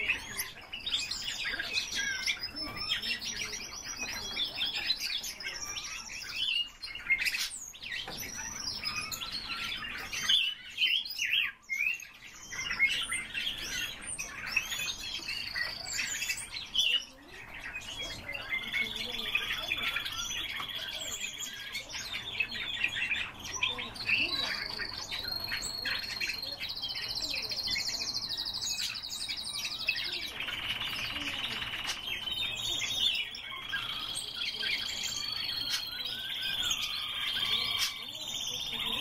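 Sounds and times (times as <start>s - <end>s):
bird singing whistled song: 0.0s - 39.0s.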